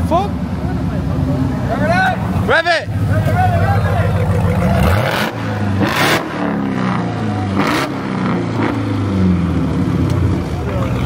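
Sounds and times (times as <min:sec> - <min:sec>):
car engine revving: 0:00.3 - 0:11.0.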